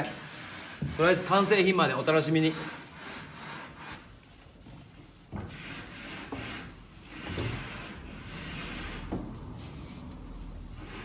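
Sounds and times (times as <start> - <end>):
cloth rag wiping wood: 0.0 - 11.0.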